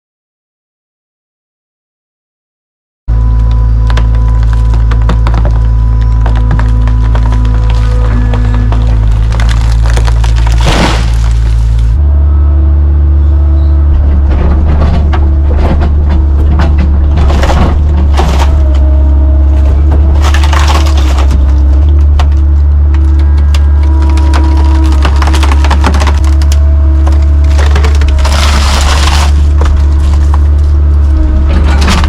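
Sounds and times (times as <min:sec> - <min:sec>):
excavator engine running: 0:03.1 - 0:32.0
hydraulic whine: 0:03.1 - 0:32.0
wood cracking and splintering: 0:03.3 - 0:12.0, 0:14.1 - 0:32.0.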